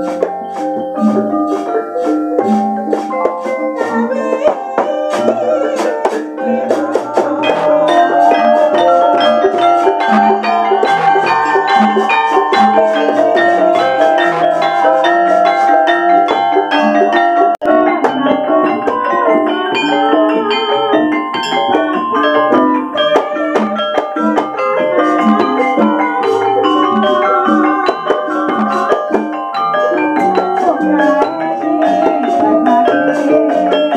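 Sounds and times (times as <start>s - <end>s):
gongs: 0.0s - 33.9s
hand drums: 0.0s - 33.9s
metallophones ringing: 0.0s - 33.9s.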